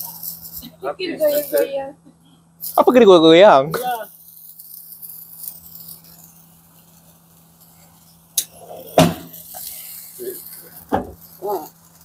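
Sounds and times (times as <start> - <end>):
sparklers fizzing: 0.0 - 12.0.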